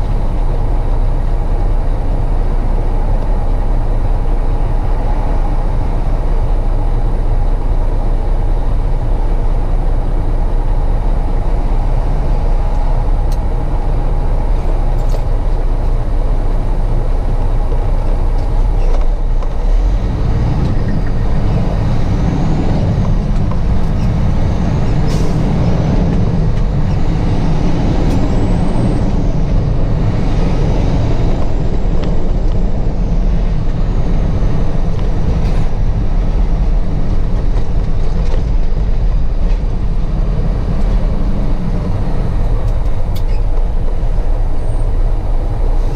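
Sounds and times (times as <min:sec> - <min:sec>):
road noise: 0:00.0 - 0:45.9
truck engine rumble: 0:00.0 - 0:45.9.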